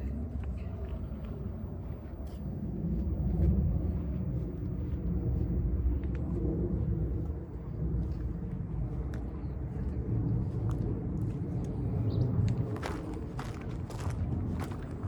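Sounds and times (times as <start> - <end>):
low outdoor rumble on microphone: 0.0 - 15.0.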